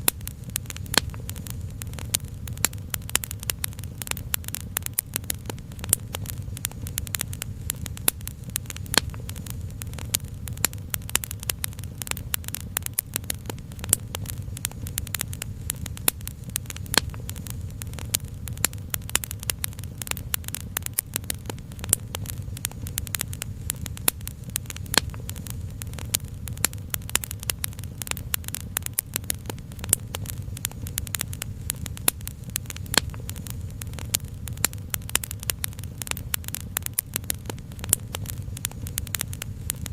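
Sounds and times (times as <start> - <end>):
fire popping: 0.0 - 39.9
low rumble: 0.0 - 39.9
wood fire crackling: 0.0 - 39.9.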